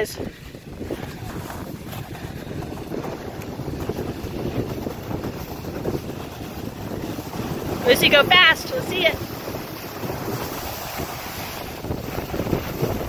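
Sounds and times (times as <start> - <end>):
skis scraping on snow: 0.0 - 13.0
wind rushing over microphone: 0.0 - 13.0.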